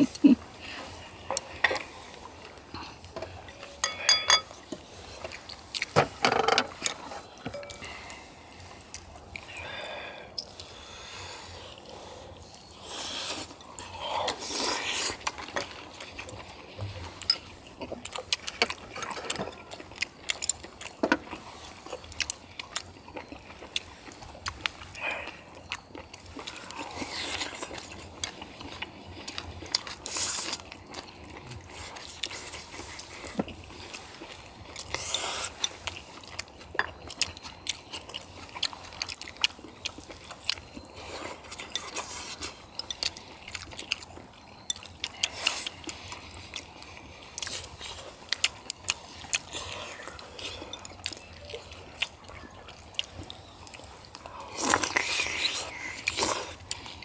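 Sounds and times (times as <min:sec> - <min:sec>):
people chewing: 0:00.0 - 0:57.0.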